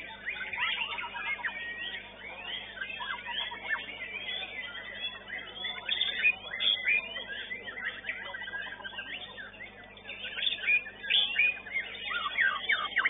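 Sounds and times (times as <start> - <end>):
other songbirds singing: 0.0 - 13.0
songbird singing whistles: 0.0 - 13.0.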